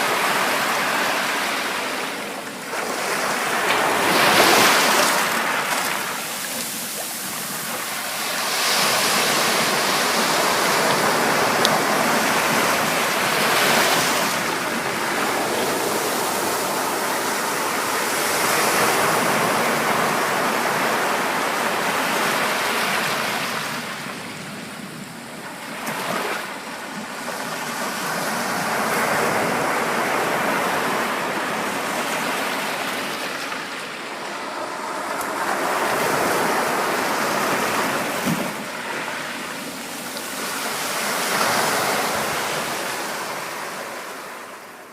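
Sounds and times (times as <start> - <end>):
ocean surf breaking on a beach: 0.0 - 44.9.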